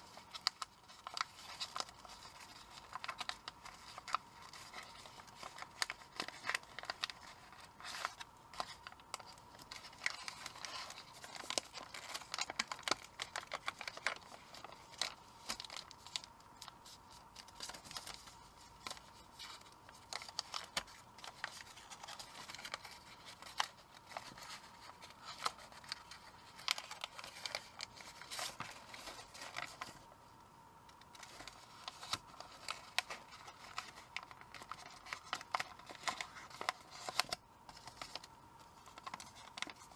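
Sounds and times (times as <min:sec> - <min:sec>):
paper crinkling while folded: 0:00.0 - 0:30.2, 0:30.9 - 0:39.9.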